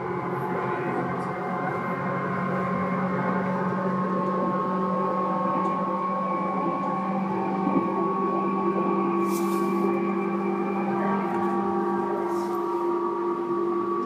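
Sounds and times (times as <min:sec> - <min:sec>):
train running rumble: 0:00.0 - 0:14.0
train traction motor whine: 0:00.0 - 0:14.0.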